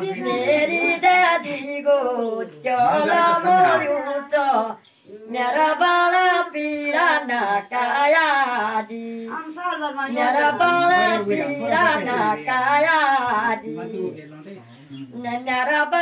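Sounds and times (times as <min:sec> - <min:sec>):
women singing unaccompanied: 0:00.0 - 0:14.2, 0:14.9 - 0:16.0.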